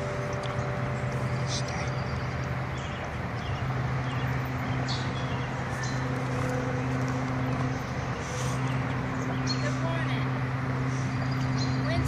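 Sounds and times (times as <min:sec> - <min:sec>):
horse hooves clopping: 0:00.0 - 0:12.0
steady low hum: 0:00.0 - 0:12.0.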